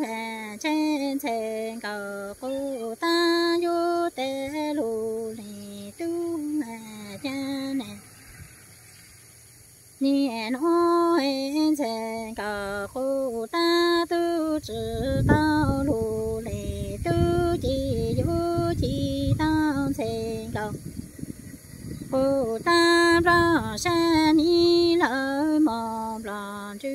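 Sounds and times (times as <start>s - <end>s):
woman singing unaccompanied: 0.0s - 8.5s, 9.3s - 26.9s.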